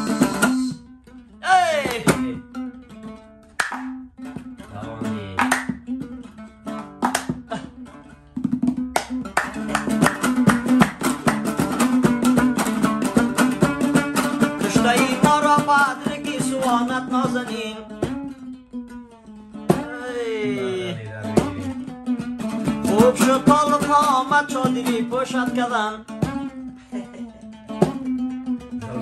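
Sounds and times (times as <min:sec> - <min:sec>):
lute strumming: 0:00.0 - 0:29.0.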